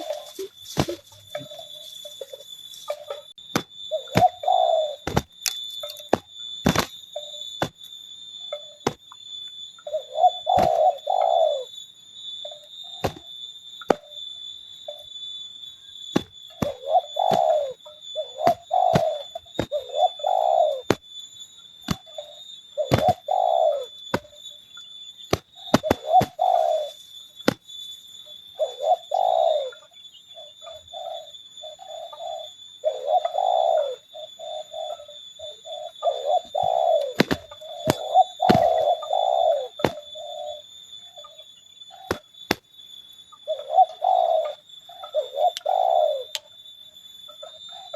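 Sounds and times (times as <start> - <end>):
doves cooing: 0.0 - 7.8, 9.8 - 11.8, 12.4 - 14.2, 16.1 - 24.6, 25.2 - 27.6, 28.3 - 42.6, 43.3 - 46.6, 47.2 - 47.9.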